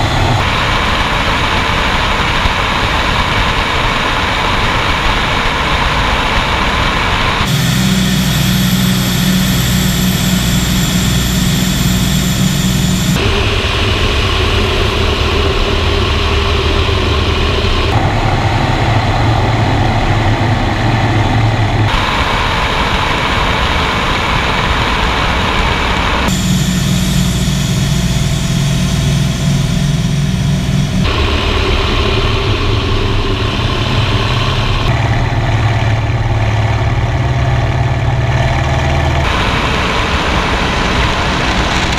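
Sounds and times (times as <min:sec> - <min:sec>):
piston aircraft engine drone: 0:00.0 - 0:41.9.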